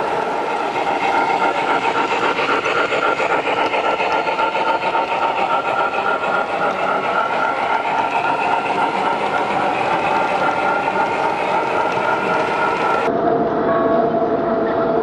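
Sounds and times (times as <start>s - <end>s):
model steam locomotive chuffing: 0.0s - 13.1s
wheels rumbling on model track: 0.0s - 13.1s.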